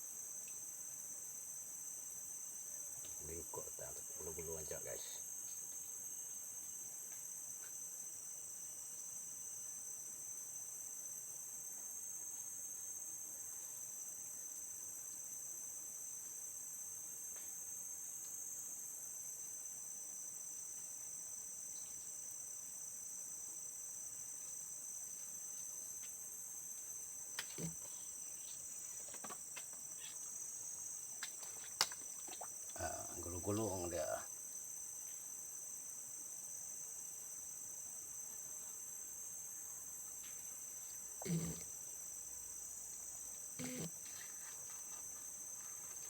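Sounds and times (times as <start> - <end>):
insects chorus: 0.0 - 46.0.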